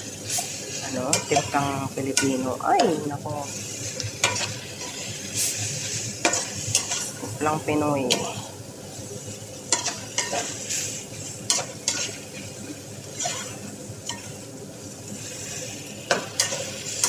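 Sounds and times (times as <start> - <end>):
oil sizzling in a pan: 0.0 - 17.0
metal spoon scraping a pan: 0.2 - 7.3, 9.3 - 14.4, 15.1 - 17.0.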